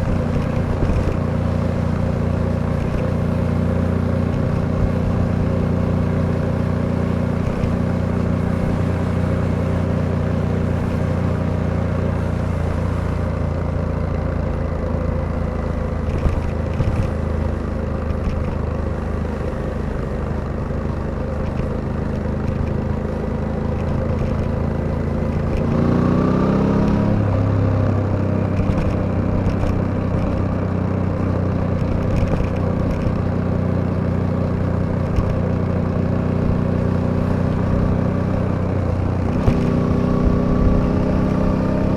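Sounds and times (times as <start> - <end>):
motorcycle engine running: 0.0 - 41.9
wind and road noise: 0.0 - 41.9.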